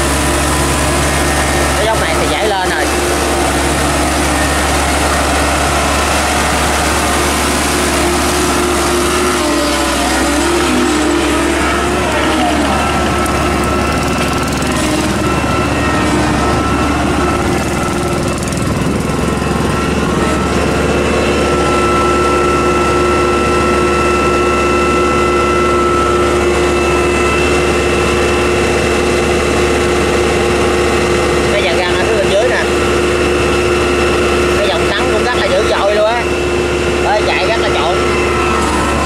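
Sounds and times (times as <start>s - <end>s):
steady whine: 0.0s - 39.0s
tractor engine running: 0.0s - 39.0s.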